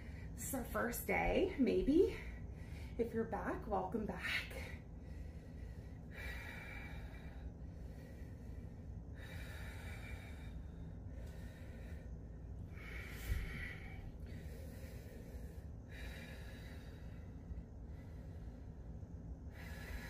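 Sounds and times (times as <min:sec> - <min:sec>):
woman breathing hard: 0:02.2 - 0:03.0, 0:04.5 - 0:20.0.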